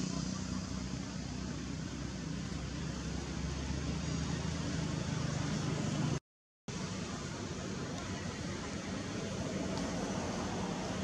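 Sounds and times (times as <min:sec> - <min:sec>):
low droning hum outdoors: 0:00.0 - 0:11.0.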